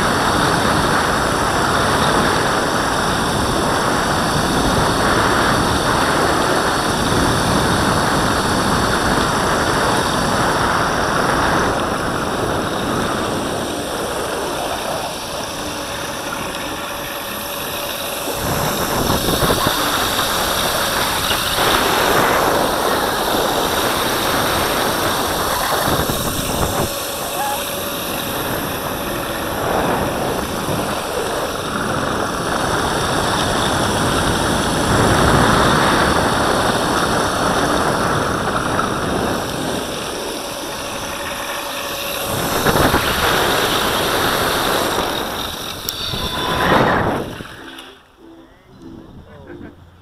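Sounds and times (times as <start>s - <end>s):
tyres rolling over asphalt: 0.0s - 48.2s
wind rumbling: 0.0s - 50.0s.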